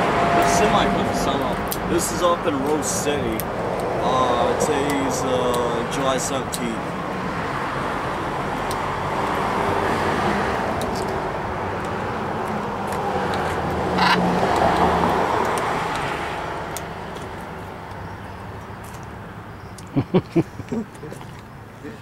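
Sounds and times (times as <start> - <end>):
passing vehicles rushing: 0.0 - 22.0.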